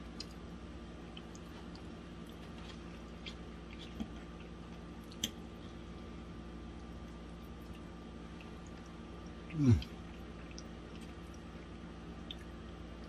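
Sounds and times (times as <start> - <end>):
faint chewing: 0.0 - 6.1, 6.7 - 13.0
steady low hum: 0.0 - 13.0.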